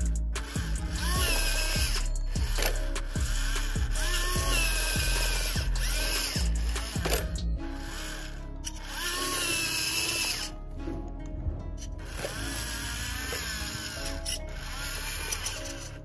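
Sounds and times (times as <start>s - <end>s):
electric gear motor whine: 0.0s - 16.0s
music playing: 0.0s - 16.0s.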